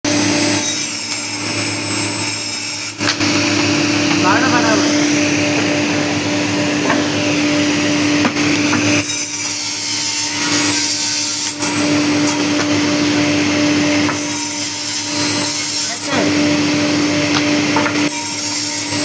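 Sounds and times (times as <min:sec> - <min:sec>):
cutting machine motor hum: 0:00.1 - 0:19.0.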